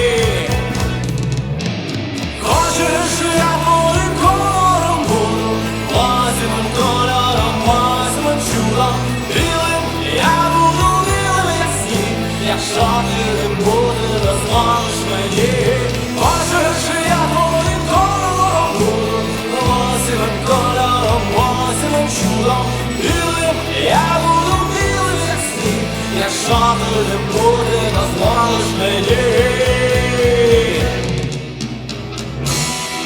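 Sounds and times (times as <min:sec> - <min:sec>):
bending lead guitar line: 0:00.0 - 0:33.0
rock band playing live: 0:00.0 - 0:33.0.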